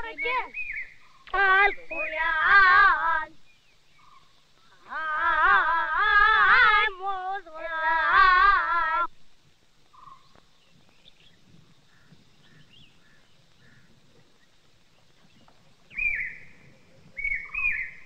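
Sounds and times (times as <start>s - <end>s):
high bird calls: 0.0s - 9.1s, 9.8s - 18.0s
birds chirping: 0.0s - 18.0s.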